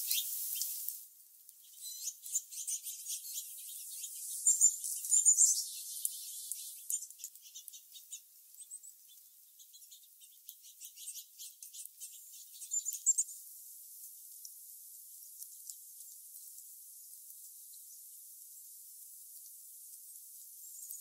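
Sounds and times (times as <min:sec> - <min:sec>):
wild birds chipping and chirping: 0:00.0 - 0:00.9, 0:01.5 - 0:21.0
faint steady hiss: 0:00.0 - 0:21.0.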